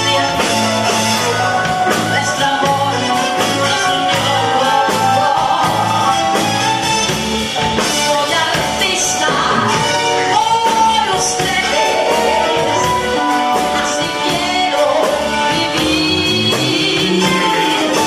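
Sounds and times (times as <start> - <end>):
woman singing into a microphone: 0.0 - 6.4, 7.8 - 18.0
drums: 0.0 - 18.0
electric guitar: 0.0 - 18.0.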